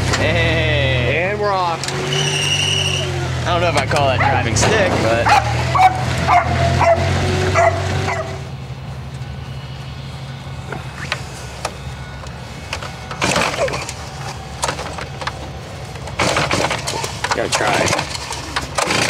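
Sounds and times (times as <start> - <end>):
cart engine running: 0.0 - 19.0.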